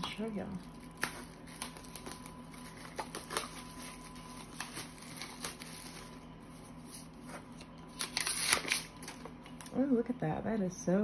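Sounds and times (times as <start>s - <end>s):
plastic wrapping rustling: 0.0s - 9.8s
sharp crinkles and snaps: 0.0s - 9.8s.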